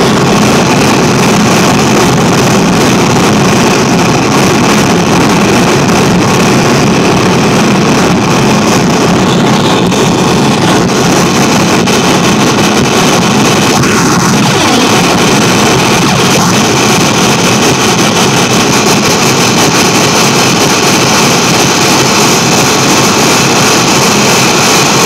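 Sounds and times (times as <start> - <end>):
falling electronic sweep: 0.0 - 22.5
dense electronic noise: 0.0 - 25.0.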